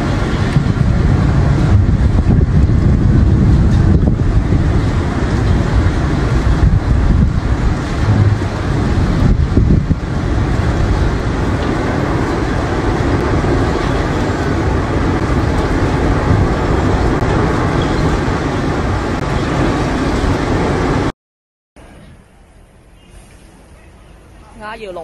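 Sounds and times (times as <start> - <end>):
strong wind rushing with rumble: 0.0 - 21.1.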